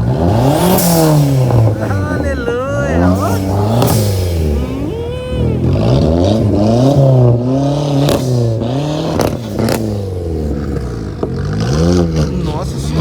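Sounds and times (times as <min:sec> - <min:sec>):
car engine revving: 0:00.0 - 0:13.0
exhaust pops: 0:00.0 - 0:13.0.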